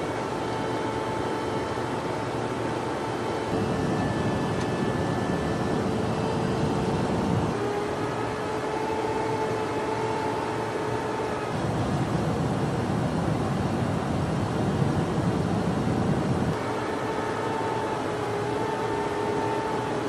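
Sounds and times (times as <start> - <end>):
faint steady whine: 0.0 - 20.0
jet aircraft cabin noise: 0.0 - 20.0.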